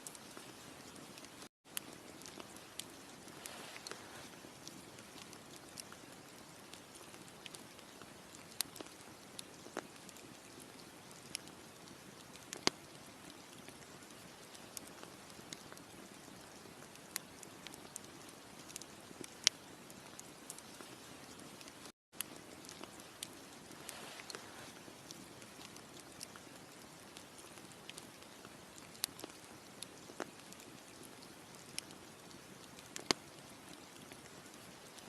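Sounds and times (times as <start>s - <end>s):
campfire crackling: 0.0s - 35.0s
fire popping: 0.0s - 35.0s.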